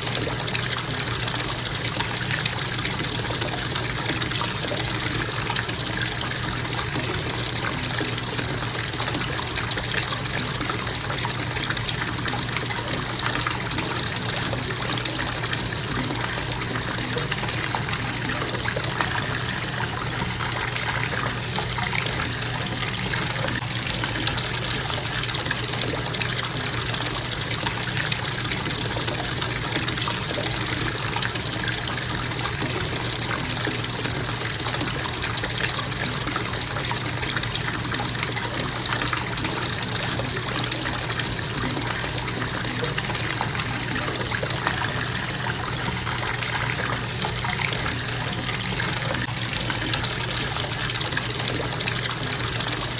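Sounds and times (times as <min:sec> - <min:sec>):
faucet water running into tub: 0:00.0 - 0:52.9.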